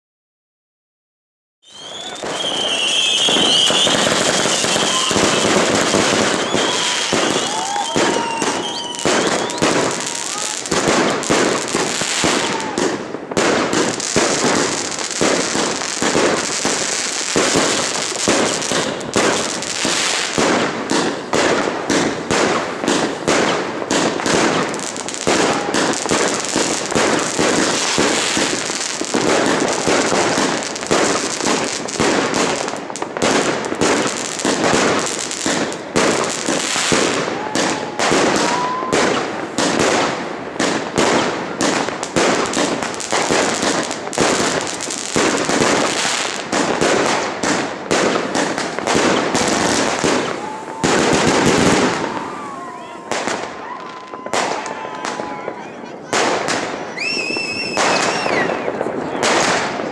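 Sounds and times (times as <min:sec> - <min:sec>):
firework burst bangs: 0:01.7 - 0:59.9.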